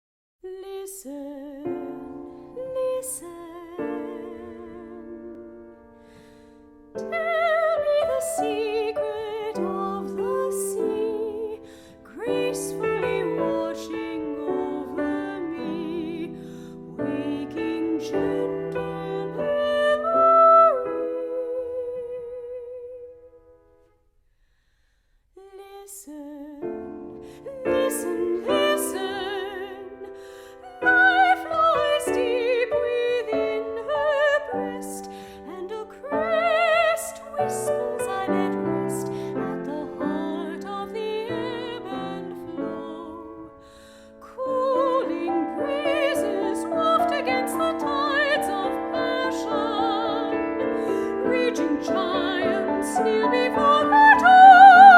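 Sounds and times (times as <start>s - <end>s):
soprano singing with vibrato: 0.4s - 6.0s, 6.9s - 23.3s, 25.4s - 54.9s
piano accompaniment: 1.4s - 22.7s, 26.6s - 54.9s.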